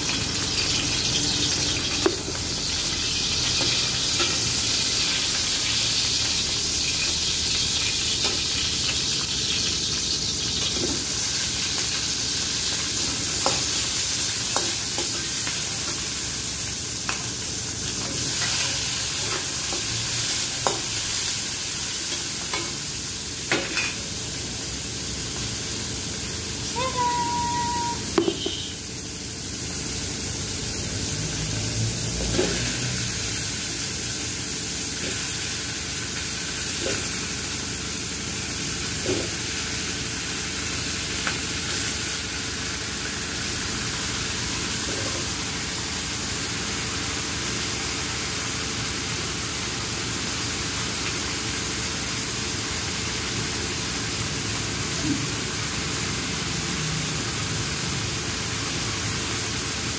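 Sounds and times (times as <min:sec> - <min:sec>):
food sizzling in a wok: 0:00.0 - 0:59.9.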